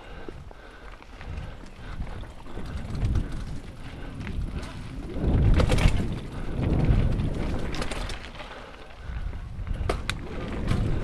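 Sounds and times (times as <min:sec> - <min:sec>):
bike rattling: 0:00.0 - 0:11.0
wind buffeting microphone: 0:00.0 - 0:11.0
tyre rumble: 0:01.3 - 0:11.0.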